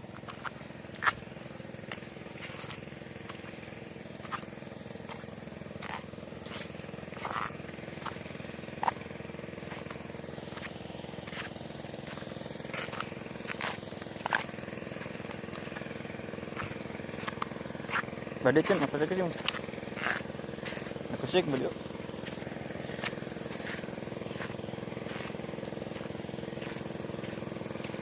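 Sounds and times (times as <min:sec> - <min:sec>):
small engine running: 0:00.0 - 0:28.0.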